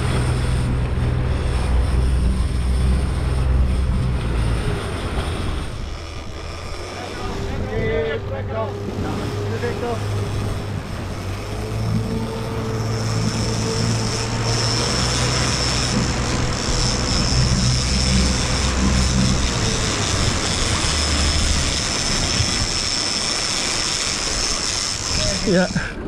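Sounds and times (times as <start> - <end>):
boat engine droning: 0.0 - 26.0
thin high whine: 0.0 - 26.0
water rushing along hull: 0.0 - 26.0.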